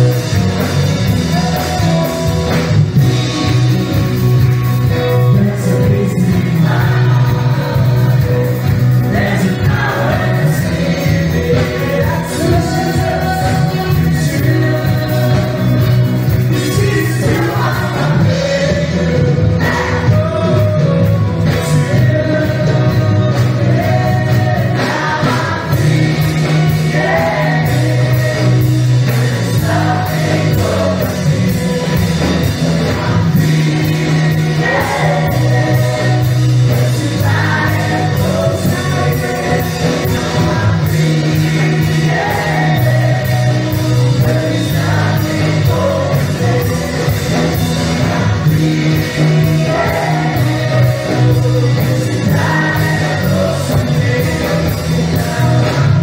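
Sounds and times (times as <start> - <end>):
electric guitar: 0.0 - 56.0
keyboard: 0.0 - 56.0
people singing in unison: 0.0 - 56.0
steady drum beat: 0.0 - 56.0.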